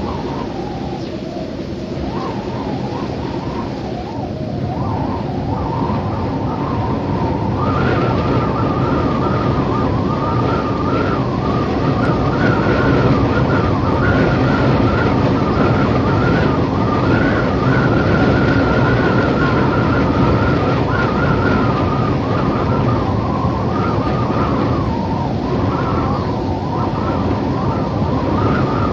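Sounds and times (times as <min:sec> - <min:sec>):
howling wind: 0:00.0 - 0:28.9.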